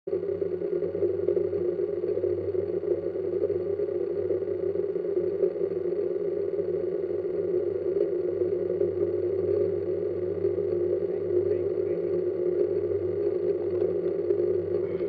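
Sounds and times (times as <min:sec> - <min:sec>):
drone motors humming at idle: 0:00.1 - 0:15.0.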